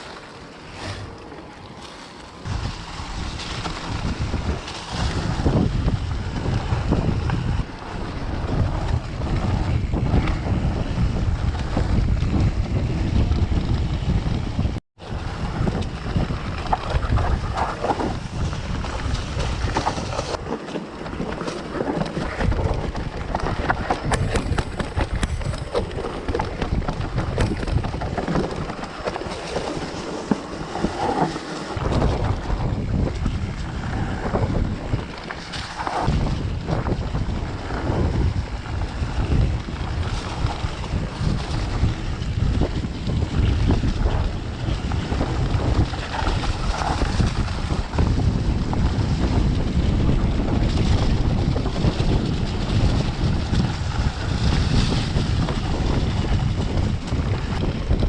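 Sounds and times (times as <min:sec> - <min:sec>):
wind buffeting microphone: 0:02.4 - 0:58.0
bike clicks and rattles: 0:02.8 - 0:58.0.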